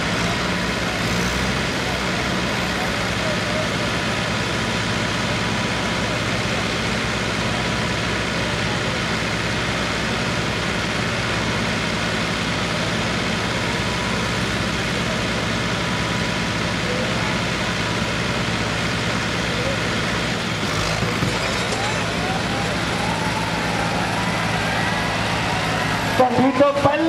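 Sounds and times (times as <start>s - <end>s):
tractor diesel engines running: 0.0s - 27.0s.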